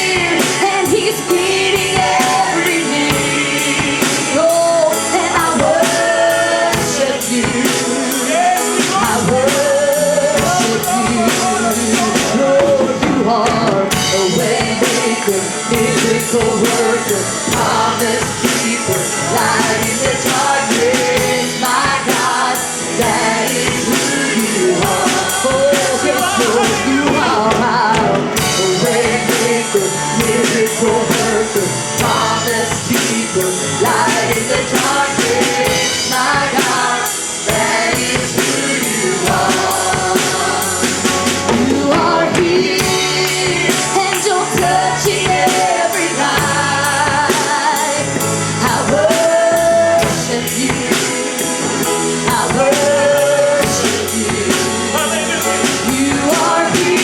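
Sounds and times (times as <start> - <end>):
band playing worship music: 0.0 - 57.0.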